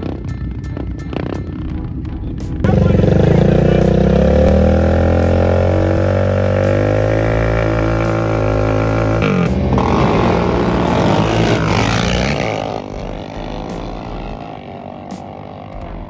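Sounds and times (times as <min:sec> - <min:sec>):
atv engines accelerating past: 0:02.6 - 0:16.0.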